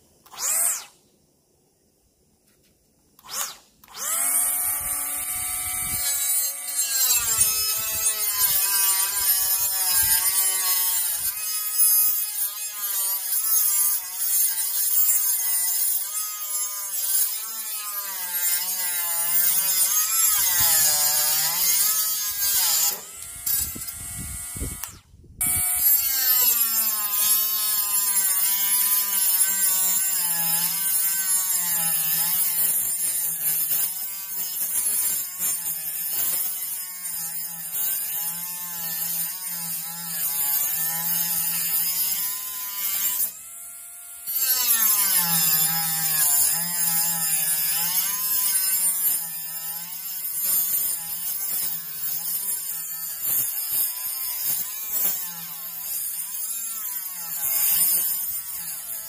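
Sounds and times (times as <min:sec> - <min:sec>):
angle grinder cutting: 0:00.2 - 0:01.0, 0:03.2 - 0:59.0.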